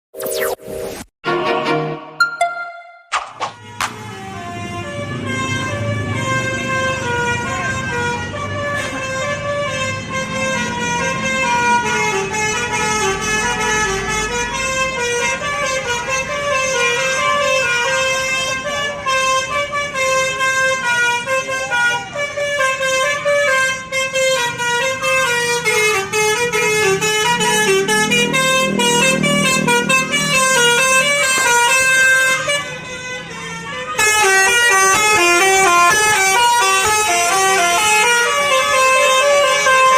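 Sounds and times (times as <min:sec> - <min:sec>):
bus horn playing melody: 0:01.2 - 0:39.9.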